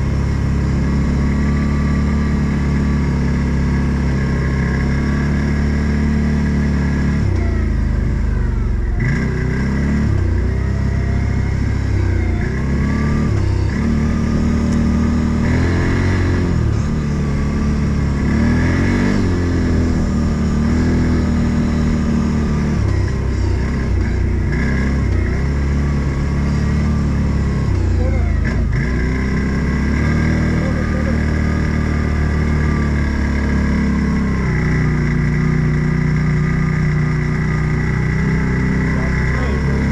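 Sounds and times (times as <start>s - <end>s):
utility vehicle engine revving: 0.0s - 39.9s.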